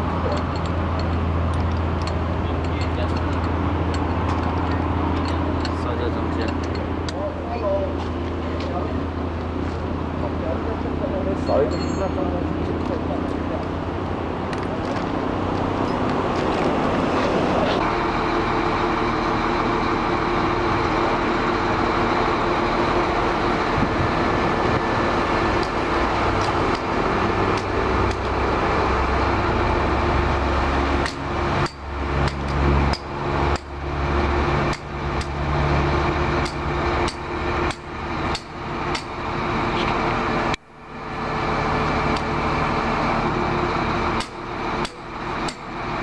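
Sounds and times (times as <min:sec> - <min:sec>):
heavy equipment engine droning: 0:00.0 - 0:46.0.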